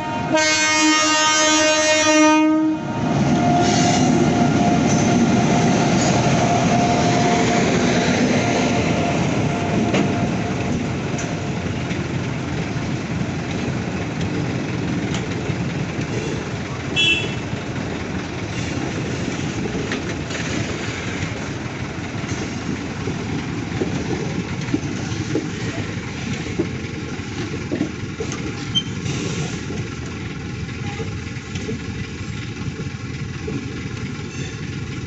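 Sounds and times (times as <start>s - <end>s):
train rumbling: 0.0s - 35.0s.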